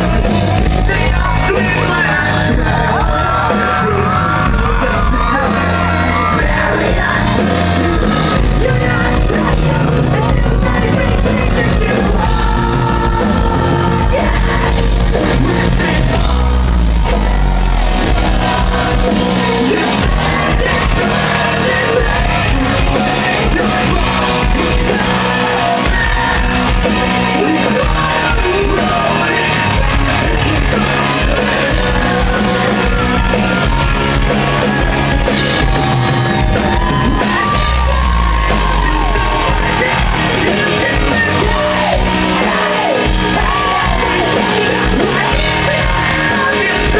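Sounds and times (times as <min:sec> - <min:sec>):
drums: 0:00.0 - 0:46.9
guitars: 0:00.0 - 0:46.9
heavy bass: 0:00.0 - 0:46.9
person singing and shouting: 0:00.0 - 0:46.9.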